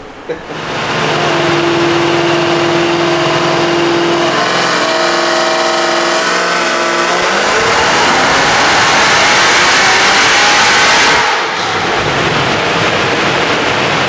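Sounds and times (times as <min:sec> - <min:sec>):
engine full-throttle dyno pull: 0:00.0 - 0:14.0.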